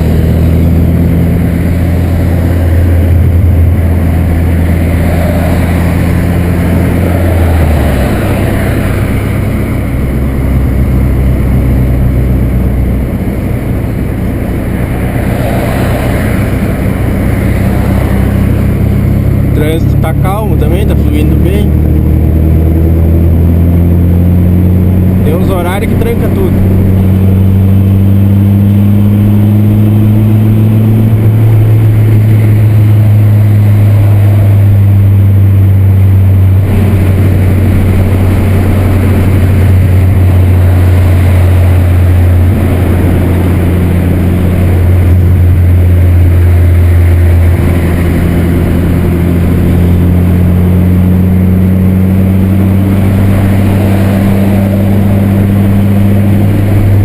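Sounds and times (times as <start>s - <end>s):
car engine and exhaust rumbling: 0.0s - 57.0s.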